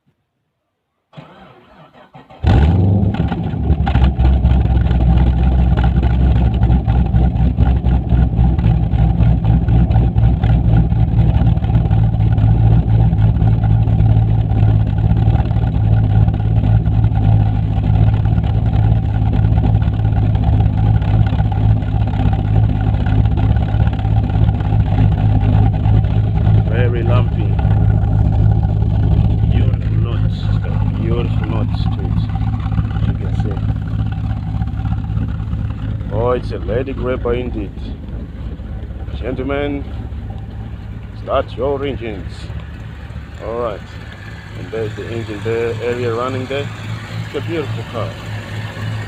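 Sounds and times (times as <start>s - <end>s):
engine cranking: 1.1s - 49.0s
loud lumpy engine idle: 2.4s - 49.0s.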